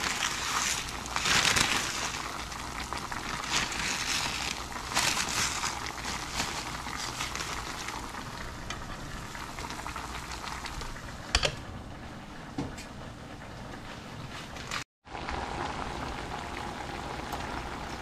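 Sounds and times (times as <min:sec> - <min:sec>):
pot simmering and bubbling: 0:00.0 - 0:18.0.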